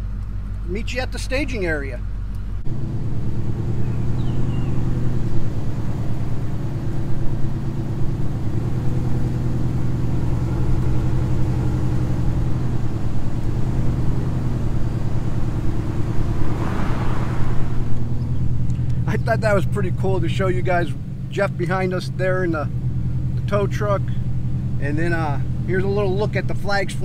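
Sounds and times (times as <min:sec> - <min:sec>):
pickup engine and exhaust droning: 0:00.0 - 0:27.0.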